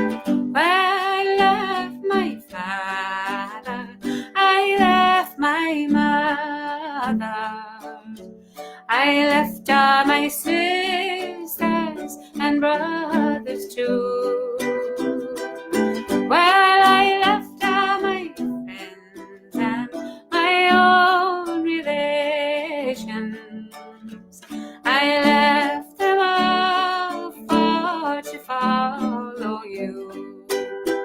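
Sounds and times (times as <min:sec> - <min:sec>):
woman singing: 0:00.0 - 0:08.2, 0:08.8 - 0:30.7
plucked string accompaniment: 0:00.0 - 0:31.0.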